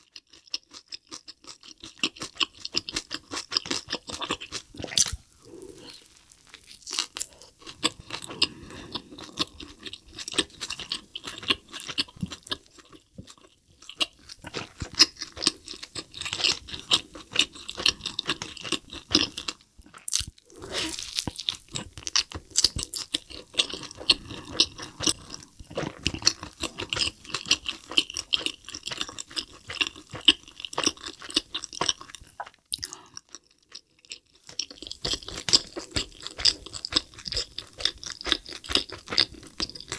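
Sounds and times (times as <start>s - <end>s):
wet chewing: 0.0s - 39.9s.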